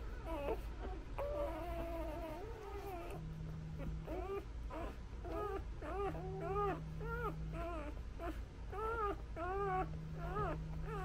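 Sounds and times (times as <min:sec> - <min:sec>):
puppies whimpering: 0:00.0 - 0:03.2, 0:03.8 - 0:11.0.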